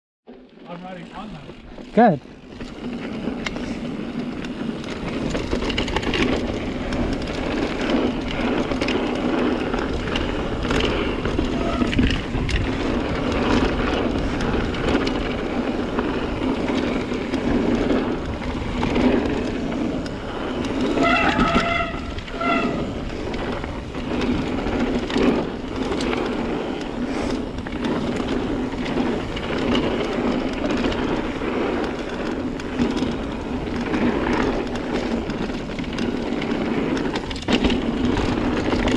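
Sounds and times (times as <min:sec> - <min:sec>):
bike rattling and knocking: 0:00.3 - 0:38.9
bike tyres rumbling on dirt: 0:00.3 - 0:38.9.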